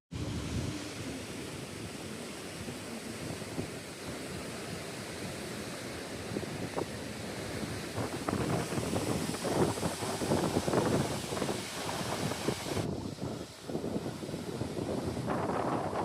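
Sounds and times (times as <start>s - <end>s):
wind buffeting microphone: 0.1s - 16.0s
river rushing: 0.2s - 16.0s.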